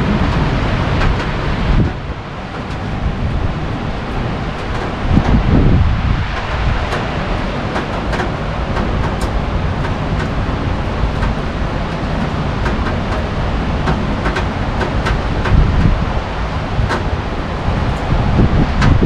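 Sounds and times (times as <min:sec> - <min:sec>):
heavy rain falling: 0:00.0 - 0:19.0
wind rumble on microphone: 0:00.0 - 0:19.0.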